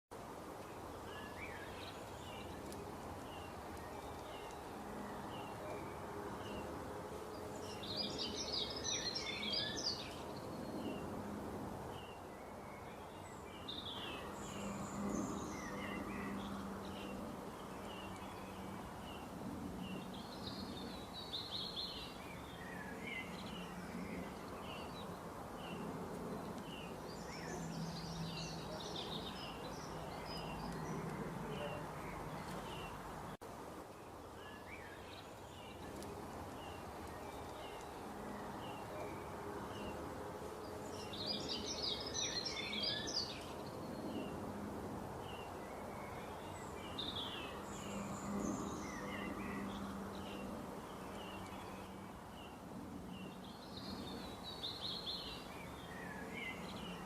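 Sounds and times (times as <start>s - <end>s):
birds chirping: 0.5s - 44.4s, 45.2s - 57.0s.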